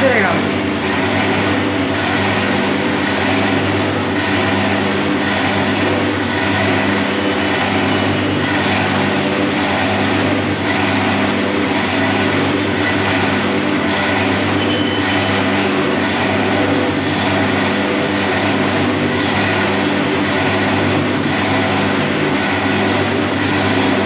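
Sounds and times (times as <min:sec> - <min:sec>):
mixing machine humming: 0:00.0 - 0:24.0.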